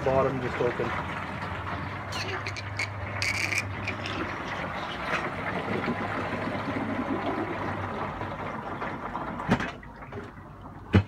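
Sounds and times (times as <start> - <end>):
water rushing down drain: 0.0 - 11.0.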